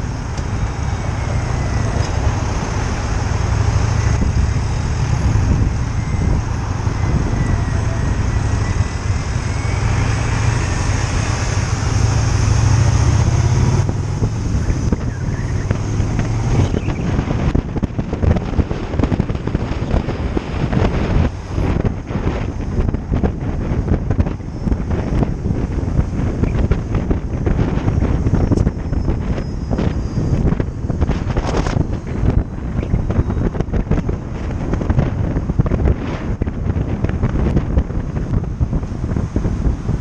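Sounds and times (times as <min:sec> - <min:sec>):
motorcycle engine droning: 0:00.0 - 0:40.0
wind buffeting microphone: 0:00.0 - 0:40.0.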